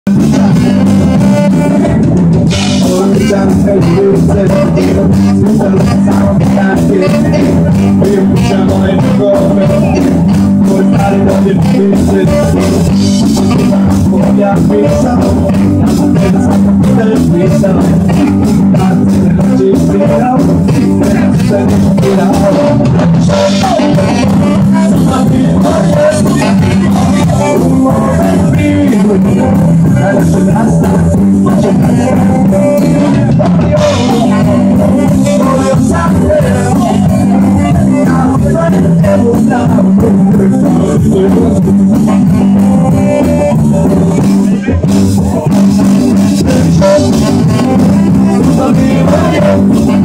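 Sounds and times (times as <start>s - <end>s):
bass guitar: 0.0s - 50.0s
electric guitar: 0.0s - 50.0s
drum kit beat: 0.1s - 50.0s
man singing: 0.1s - 50.0s
saxophone: 0.1s - 50.0s.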